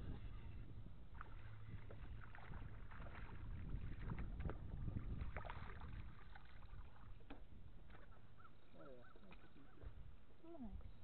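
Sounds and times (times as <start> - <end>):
water lapping against boat: 0.0 - 10.1.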